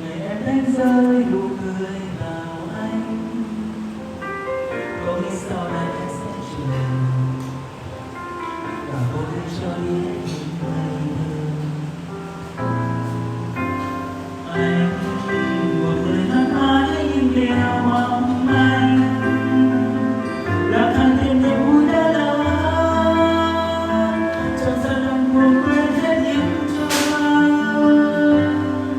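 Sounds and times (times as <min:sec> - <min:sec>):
backing track with heavy bass: 0:00.0 - 0:28.9
karaoke singing through a microphone: 0:00.0 - 0:28.9.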